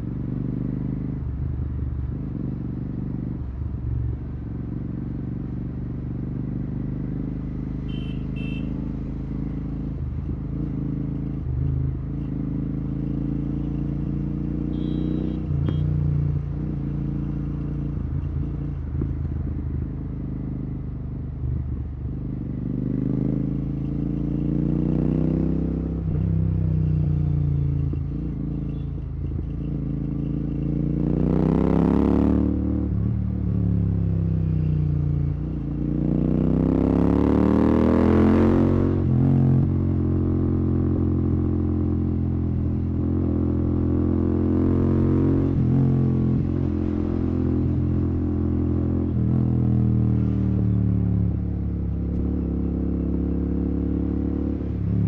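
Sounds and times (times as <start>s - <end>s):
motorcycle engine revving: 4.6s - 21.0s, 22.0s - 55.0s.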